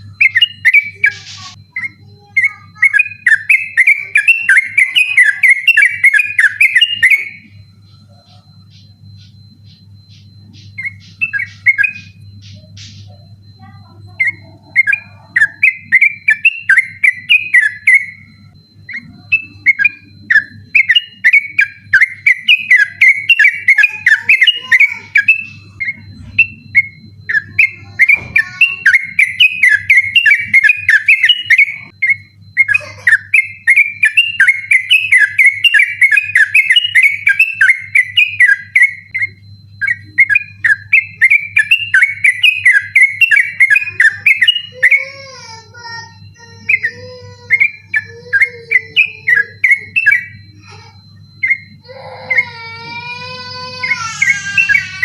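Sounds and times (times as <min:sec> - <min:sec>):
bird singing bubbling notes: 0:00.0 - 0:55.0.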